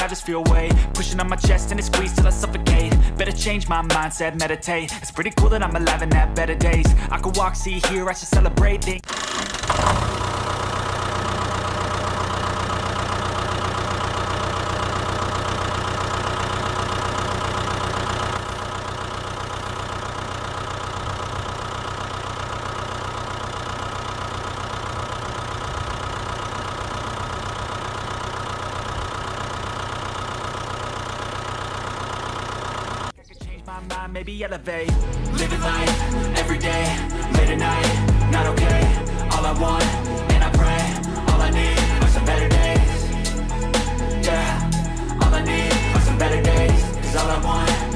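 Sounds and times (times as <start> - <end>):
engine idling with low hum: 0.0 - 47.9.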